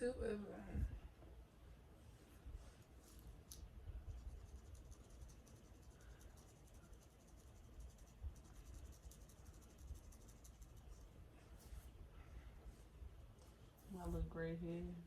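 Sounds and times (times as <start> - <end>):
scratching on scalp: 2.1 - 14.5.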